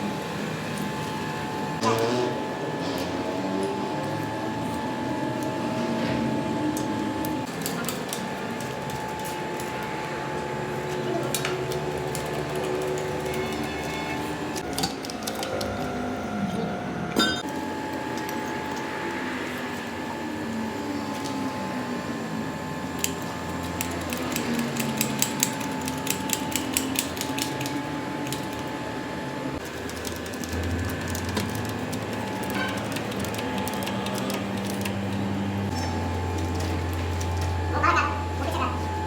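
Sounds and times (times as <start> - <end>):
low machine hum: 0.0 - 39.0
mechanical background noise: 0.0 - 39.0.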